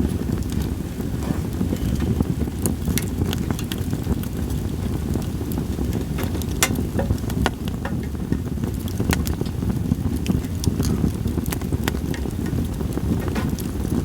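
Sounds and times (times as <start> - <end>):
logs crackling in a campfire: 0.0 - 14.0.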